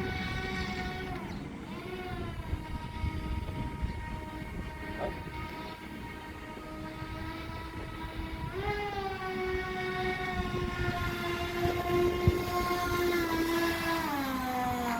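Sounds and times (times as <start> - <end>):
motor and propeller whining: 0.0 - 14.9.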